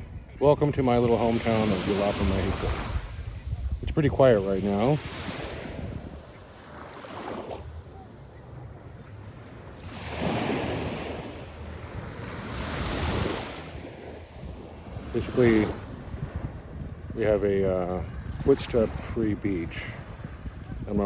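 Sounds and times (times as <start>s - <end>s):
wind on microphone: 0.0s - 21.0s
surf washing onto beach: 0.9s - 21.0s.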